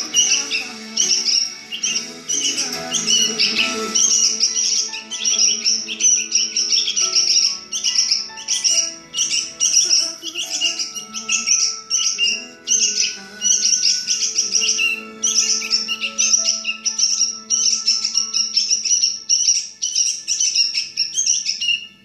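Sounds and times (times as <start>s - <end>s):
background music: 0.0s - 22.0s
songbird chirping: 0.0s - 22.0s.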